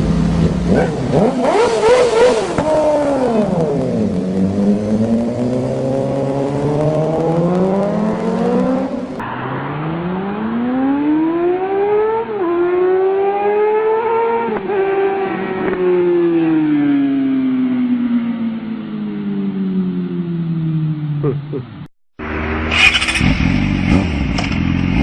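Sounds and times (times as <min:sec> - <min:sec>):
motorcycle revving through gears: 0:00.0 - 0:17.4, 0:22.2 - 0:25.0
motorcycle engines accelerating: 0:00.0 - 0:18.6, 0:20.3 - 0:25.0.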